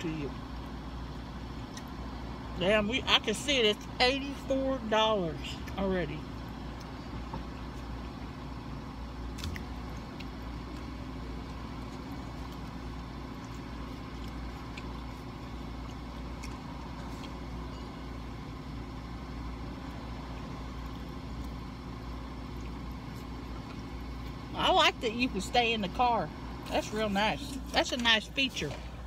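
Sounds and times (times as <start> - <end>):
low mechanical hum in car: 0.0 - 29.0.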